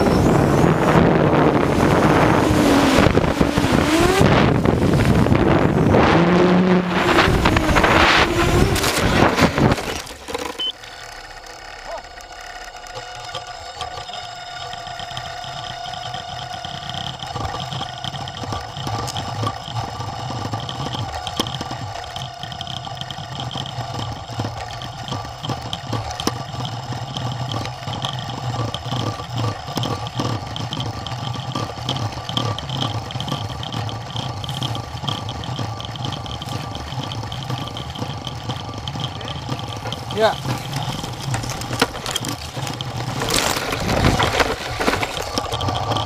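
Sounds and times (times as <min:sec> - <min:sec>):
drone motors whining: 0:00.0 - 0:46.0
propellers ticking against twigs: 0:00.0 - 0:46.0.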